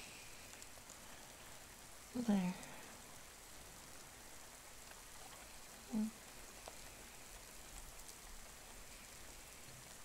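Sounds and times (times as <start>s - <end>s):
soft rain: 0.0s - 10.0s.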